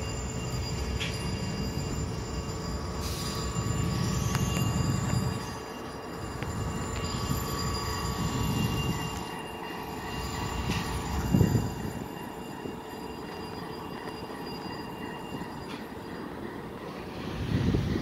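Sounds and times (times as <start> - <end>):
diesel locomotive engine rumble: 0.0 - 18.0
high-pitched whining tones: 0.0 - 18.0.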